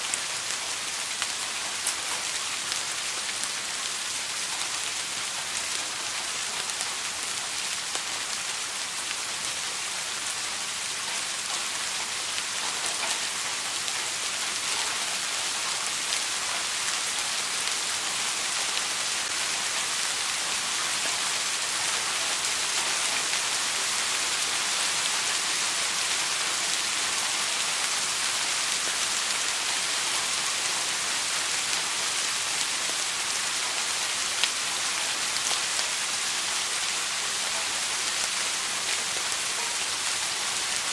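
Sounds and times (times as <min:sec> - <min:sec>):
rain falling: 0:00.0 - 0:40.9
raindrops ticking on a surface: 0:00.0 - 0:40.9.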